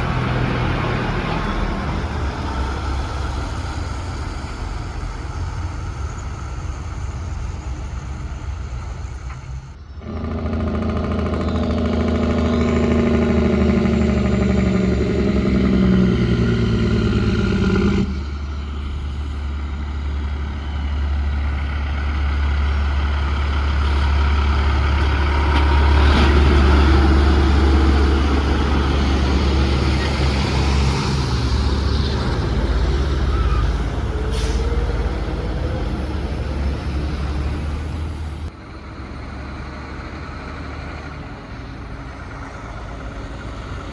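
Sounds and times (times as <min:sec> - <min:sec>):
diesel truck engines rumbling: 0:00.0 - 0:43.9.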